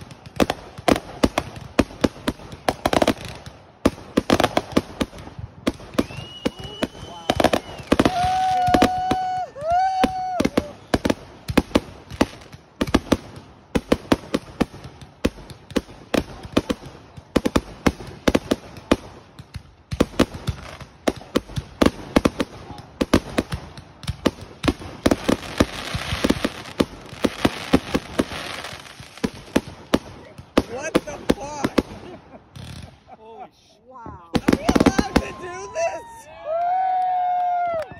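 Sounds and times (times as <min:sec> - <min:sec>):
fireworks bangs and crackle: 0:00.0 - 0:33.1, 0:34.2 - 0:37.7.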